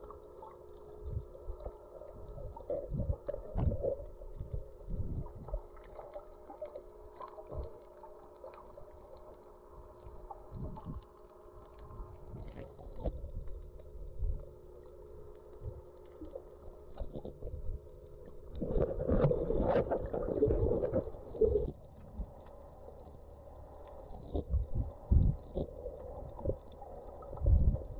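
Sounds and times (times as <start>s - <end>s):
steady hum: 0.0s - 27.9s
underwater water movement: 0.0s - 27.9s.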